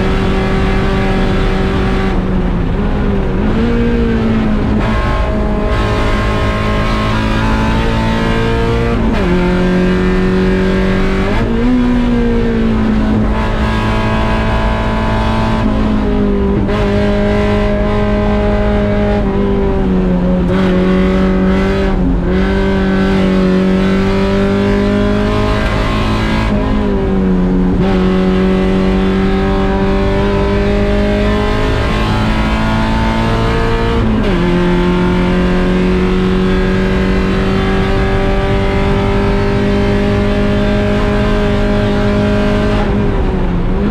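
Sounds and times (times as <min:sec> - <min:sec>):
race car engine at high revs: 0:00.0 - 0:43.9.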